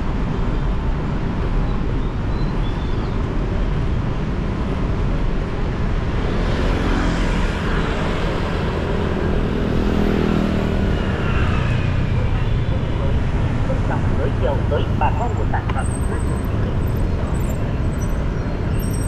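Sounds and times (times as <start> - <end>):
motorcycle road rumble: 2.8 - 19.0.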